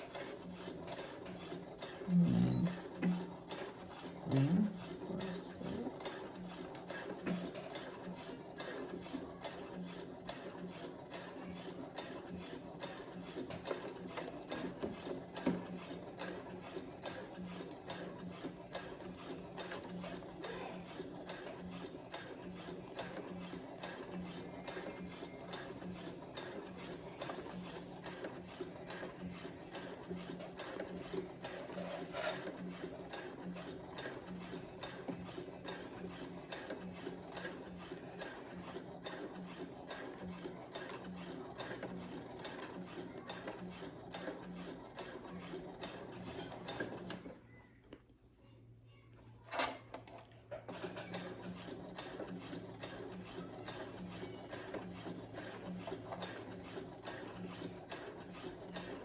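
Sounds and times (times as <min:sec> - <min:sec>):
sewing machine stitching: 0:00.0 - 0:47.6, 0:49.4 - 0:59.0.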